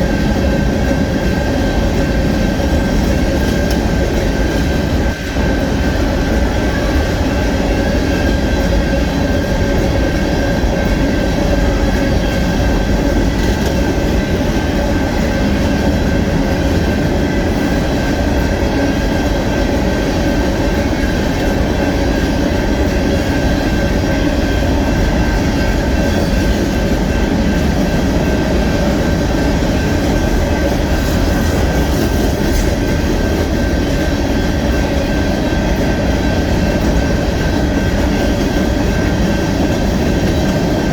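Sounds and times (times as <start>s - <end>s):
freight cars rumbling on rails: 0.0s - 40.9s.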